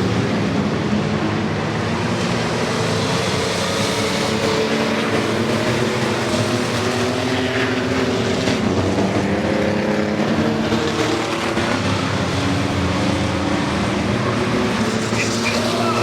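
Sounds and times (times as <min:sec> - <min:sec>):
truck engines running: 0:00.0 - 0:16.0.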